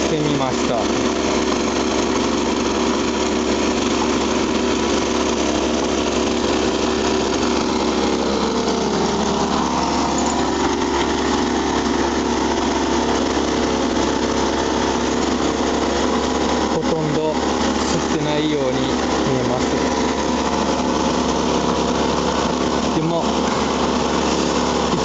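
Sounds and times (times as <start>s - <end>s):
small vacuum engine running: 0.0s - 25.0s.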